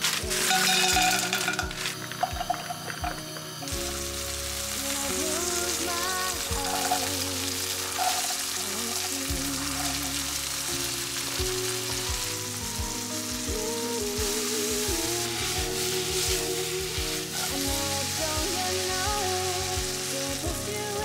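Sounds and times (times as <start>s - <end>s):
oil sizzling in a wok: 0.0s - 21.0s
soft background music: 0.0s - 21.0s.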